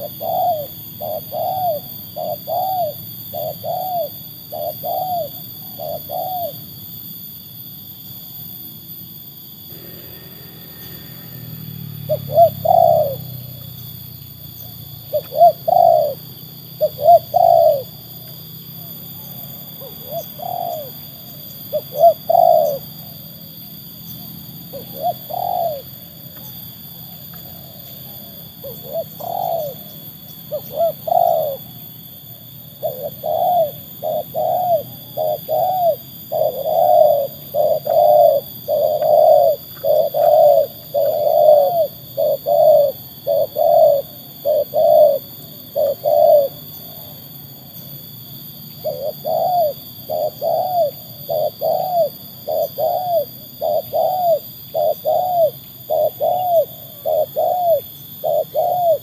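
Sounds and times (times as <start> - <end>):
dove cooing: 0.0 - 6.8, 9.7 - 47.3, 48.3 - 59.0.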